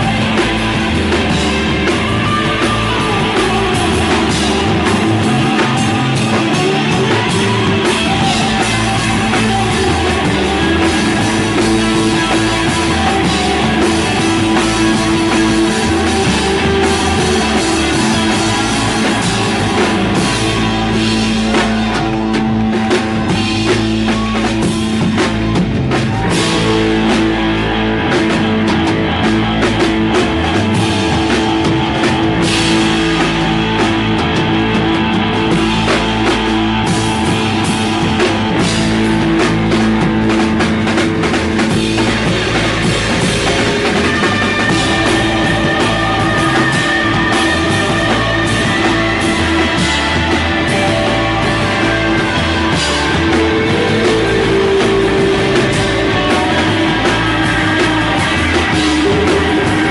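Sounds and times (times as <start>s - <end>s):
drum kit drumming: 0.0s - 59.9s
long-held guitar tones: 0.0s - 59.9s.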